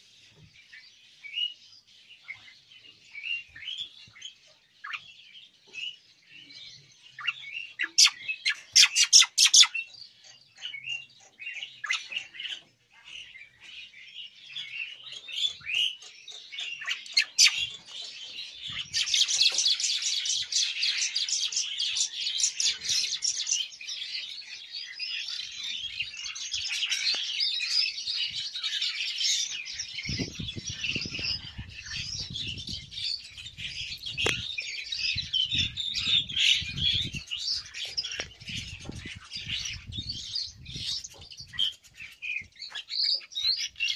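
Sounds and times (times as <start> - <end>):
starlings chirping and chattering: 0.0 - 43.9.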